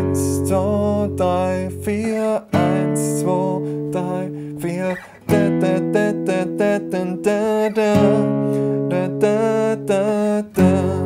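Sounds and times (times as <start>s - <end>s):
acoustic guitar power chords: 0.0s - 11.0s.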